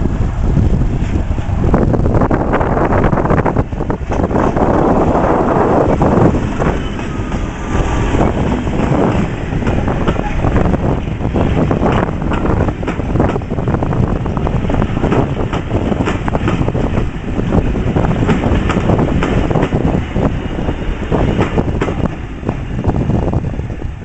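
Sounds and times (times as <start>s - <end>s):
diesel locomotive engine working hard: 0.0s - 24.0s
wind buffeting microphone: 0.0s - 24.0s.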